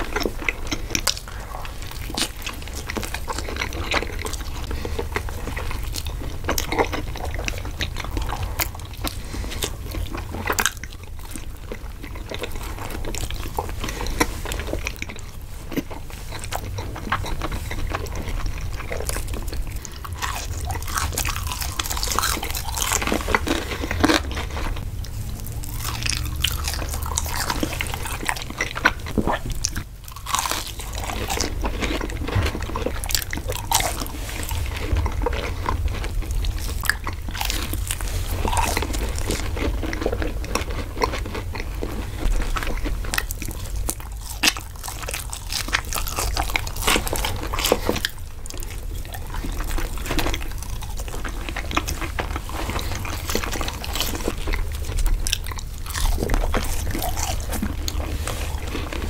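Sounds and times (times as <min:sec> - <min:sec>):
crunching and wet chewing: 0:00.0 - 0:59.0.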